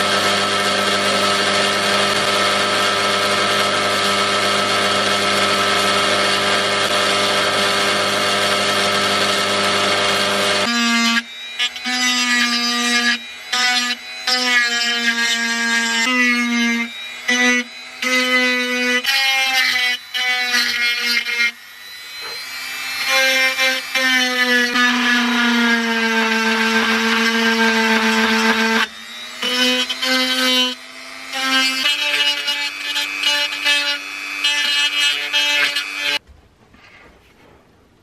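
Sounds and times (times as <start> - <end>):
rotary tool grinding wood: 0.0 - 36.2.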